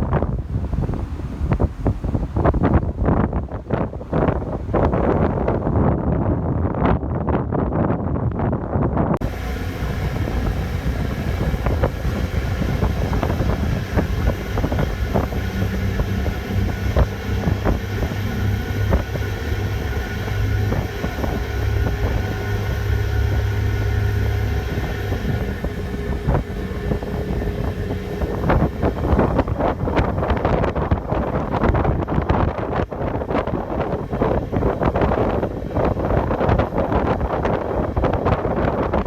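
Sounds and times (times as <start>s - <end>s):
ferry engines droning: 0.0s - 6.6s, 9.2s - 39.0s
wind buffeting microphone: 0.0s - 39.0s.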